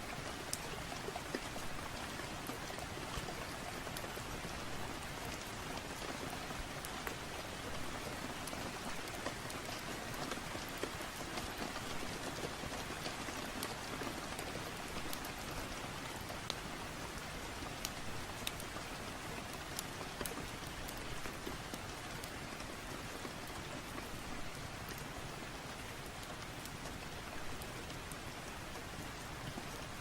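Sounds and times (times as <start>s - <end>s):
raindrop ticks: 0.0s - 30.0s
steady rain hiss: 0.0s - 30.0s.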